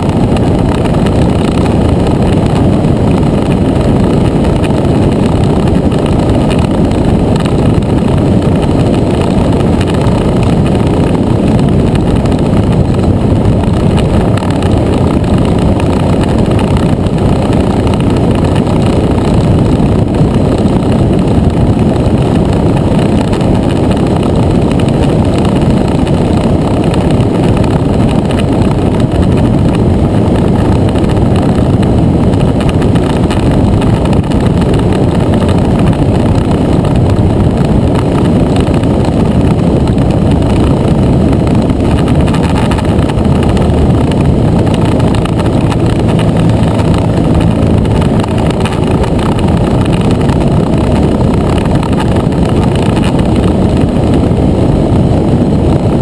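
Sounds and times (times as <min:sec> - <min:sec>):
scooter engine running: 0:00.0 - 0:56.0
wind rushing over microphone: 0:00.0 - 0:56.0.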